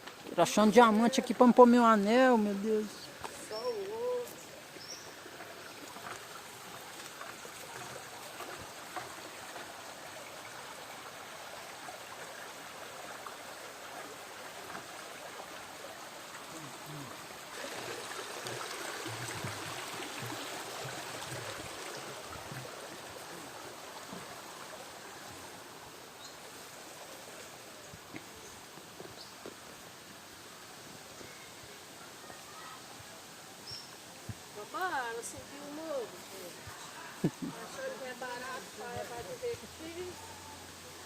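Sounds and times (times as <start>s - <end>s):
waterfall rushing water: 0.2s - 41.0s.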